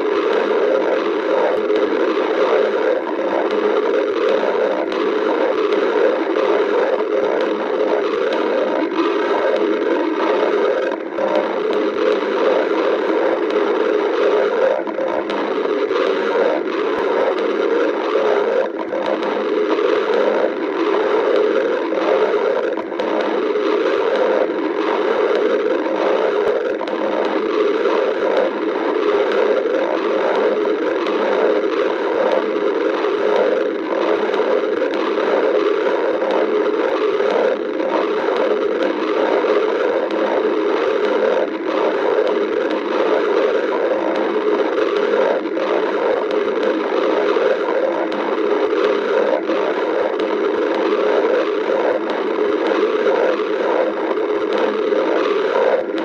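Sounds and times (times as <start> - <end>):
stomach growling: 0.0 - 56.0.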